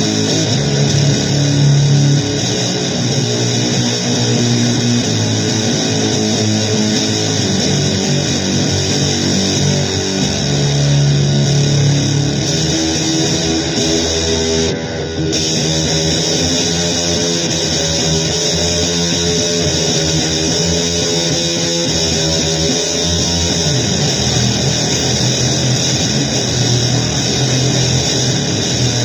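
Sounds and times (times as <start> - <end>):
loud distorted blues guitar: 0.0 - 29.0.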